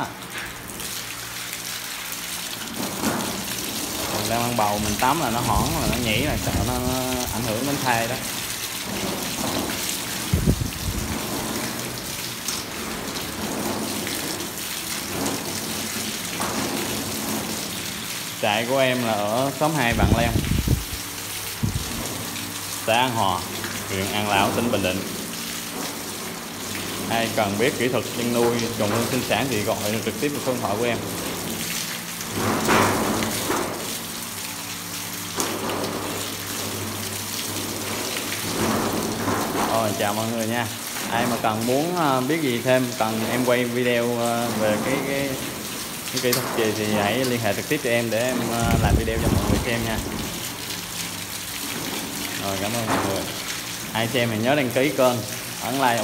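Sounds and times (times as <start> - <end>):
hose spraying water on cages: 0.0 - 56.0.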